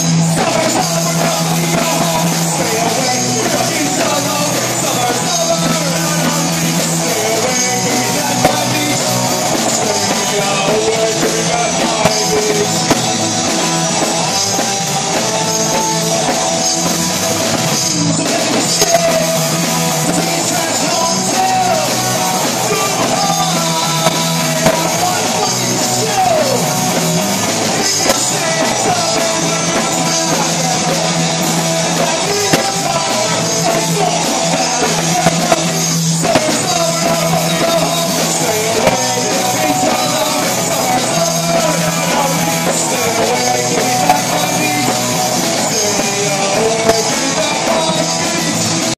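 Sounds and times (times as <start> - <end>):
bass guitar: 0.0 - 48.9
drum kit: 0.0 - 48.9
electric guitars: 0.0 - 48.9
person singing: 0.0 - 48.9.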